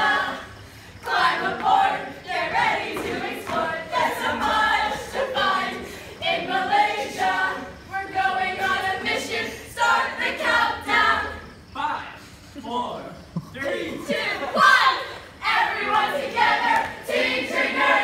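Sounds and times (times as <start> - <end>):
group singing in unison: 0.0 - 11.9, 13.6 - 18.0.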